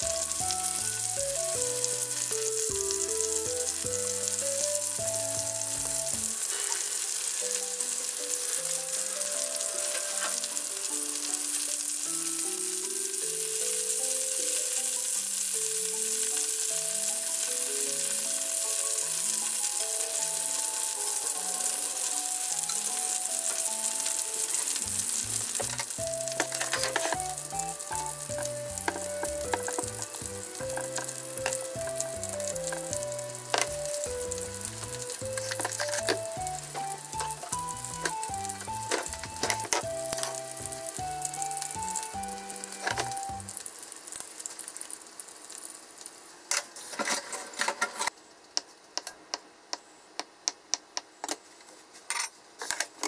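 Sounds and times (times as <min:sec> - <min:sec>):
light background music: 0:00.0 - 0:43.7
chicken sizzling in oil: 0:00.0 - 0:47.2.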